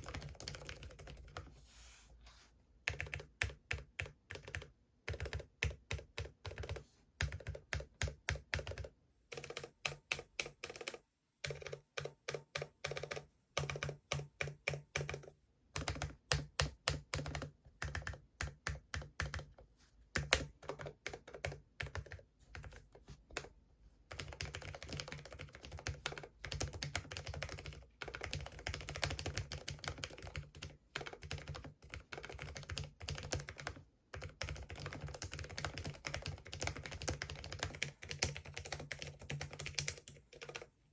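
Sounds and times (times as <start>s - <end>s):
mechanical keyboard typing: 0.0s - 1.5s, 2.8s - 40.8s.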